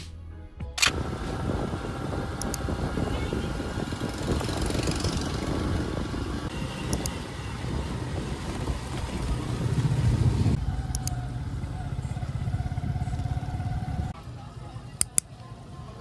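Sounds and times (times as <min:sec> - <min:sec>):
motor vehicle rumbling: 0:00.7 - 0:16.0.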